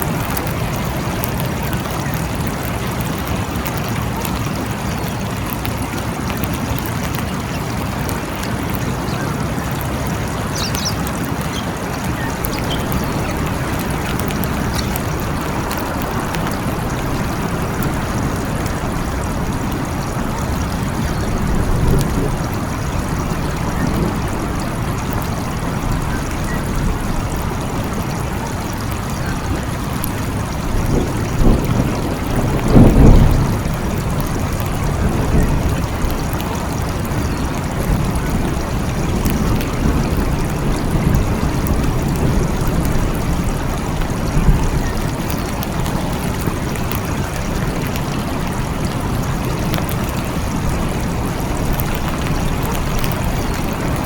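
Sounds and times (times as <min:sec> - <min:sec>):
steady rain in forest: 0:00.0 - 0:54.0.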